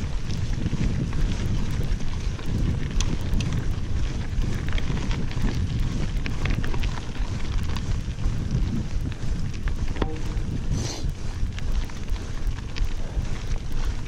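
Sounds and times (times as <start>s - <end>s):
bike clicks and rattles: 0.0s - 14.0s
bike rolling on gravel: 0.0s - 14.0s
wind rushing over microphone: 0.0s - 14.0s.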